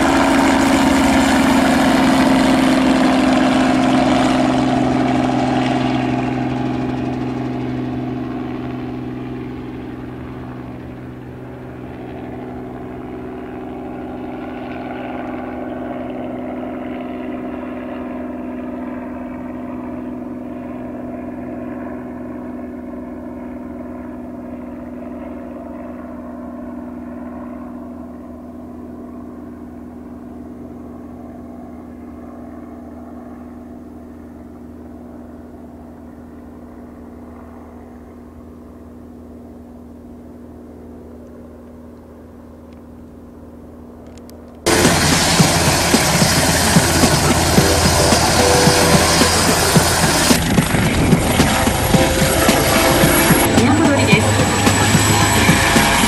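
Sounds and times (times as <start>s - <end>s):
helicopter droning: 0.0s - 56.0s.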